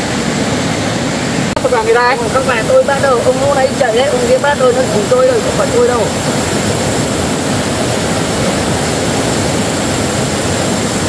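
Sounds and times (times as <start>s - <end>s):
mountain stream running water: 0.0s - 11.0s.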